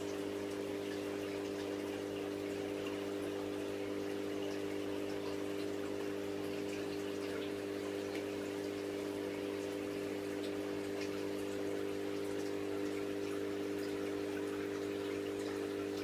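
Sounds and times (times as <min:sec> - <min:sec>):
aquarium filter pump humming: 0:00.0 - 0:16.0
water dripping and splashing: 0:00.0 - 0:16.0.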